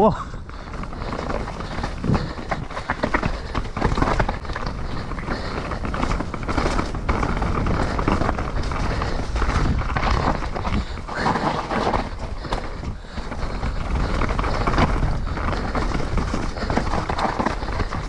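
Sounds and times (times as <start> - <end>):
bike tyres scrabbling over mud: 0.0 - 18.0
wind on microphone: 0.0 - 18.0.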